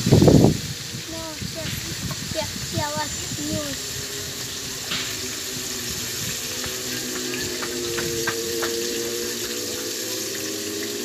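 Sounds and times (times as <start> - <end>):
food sizzling in hot oil: 0.0 - 11.0
oil crackling and popping: 0.0 - 11.0
steady low hum: 1.5 - 11.0.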